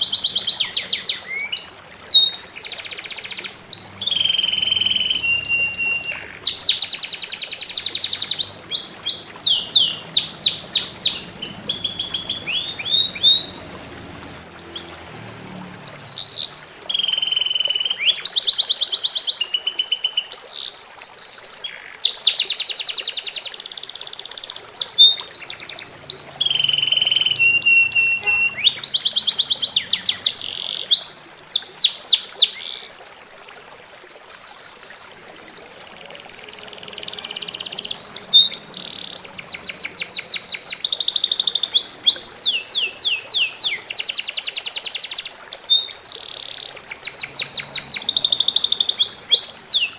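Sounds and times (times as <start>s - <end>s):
songbird singing trills: 0.0s - 14.0s, 14.6s - 33.0s, 35.2s - 49.9s
faint trickling water: 0.0s - 49.9s.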